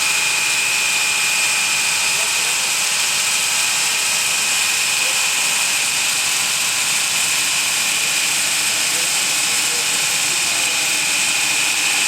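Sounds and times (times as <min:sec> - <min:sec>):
belt grinder hissing and whining: 0:00.0 - 0:12.0.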